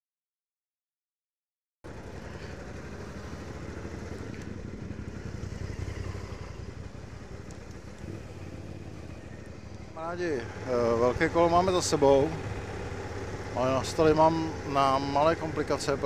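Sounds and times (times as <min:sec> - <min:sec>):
motorcycle engine running: 0:01.8 - 0:16.0.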